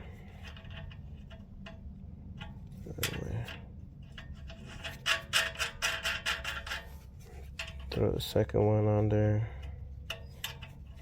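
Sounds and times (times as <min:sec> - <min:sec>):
metal nut clicking and scraping: 0:00.0 - 0:08.4, 0:09.5 - 0:11.0.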